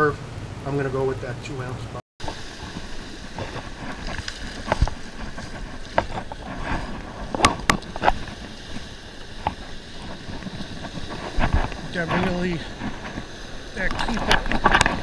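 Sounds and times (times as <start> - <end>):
surf washing: 0.0 - 15.0
wind on microphone: 2.2 - 15.0.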